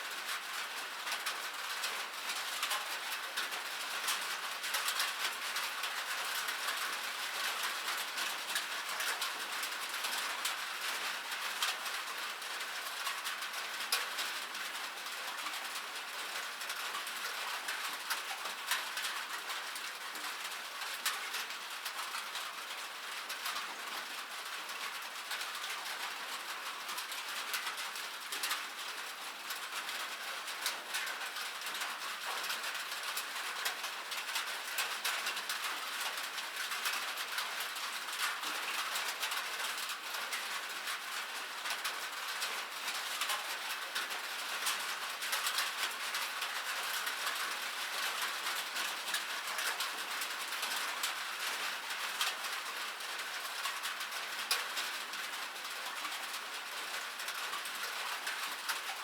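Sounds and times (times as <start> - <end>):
rain pattering on metal: 0.0 - 59.0.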